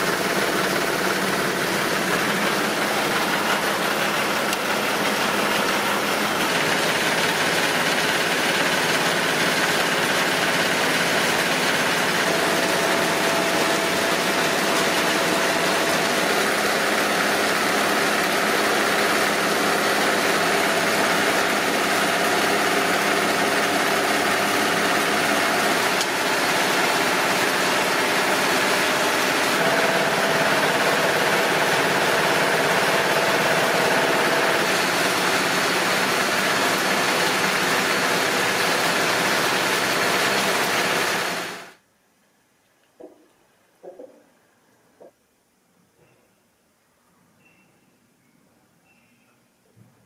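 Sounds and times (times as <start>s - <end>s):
diesel crop thresher running: 0.0s - 41.8s.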